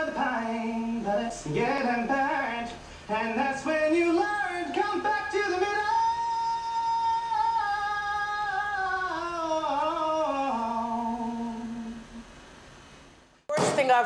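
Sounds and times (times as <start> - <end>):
person singing unaccompanied: 0.0 - 12.3.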